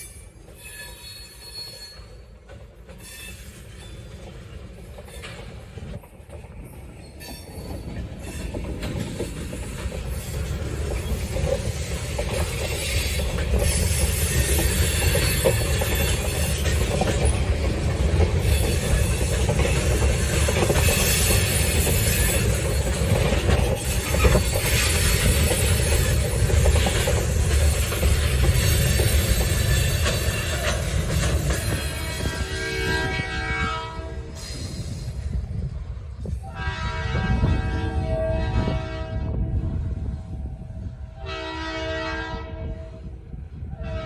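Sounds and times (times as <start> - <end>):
freight train wheels rumbling and clicking: 0.0 - 44.0.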